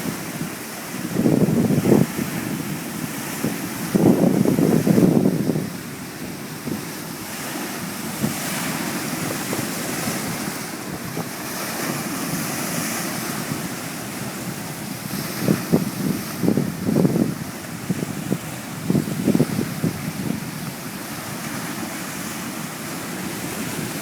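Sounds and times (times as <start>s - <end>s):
sea waves breaking: 0.0s - 24.0s
wind buffeting microphone: 0.0s - 24.0s.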